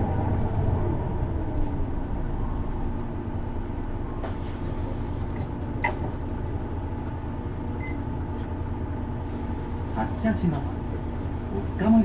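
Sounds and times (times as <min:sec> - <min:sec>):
bus diesel engine idling: 0:00.0 - 0:12.0.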